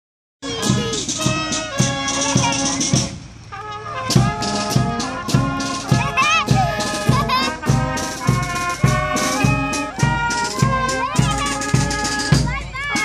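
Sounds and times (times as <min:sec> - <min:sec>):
bass drum beat: 0:00.4 - 0:03.2, 0:04.1 - 0:13.0
marching brass band playing: 0:00.4 - 0:13.0.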